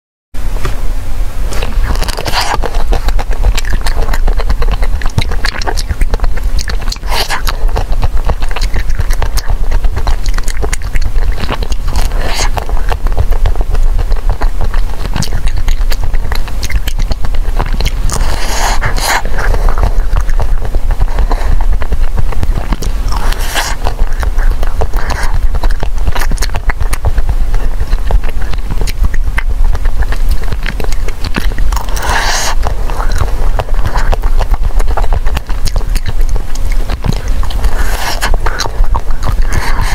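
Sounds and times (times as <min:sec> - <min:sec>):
low hum: 0:00.4 - 0:39.9
biting and chewing ice cream: 0:01.4 - 0:39.9
wet mouth clicks: 0:01.5 - 0:39.9.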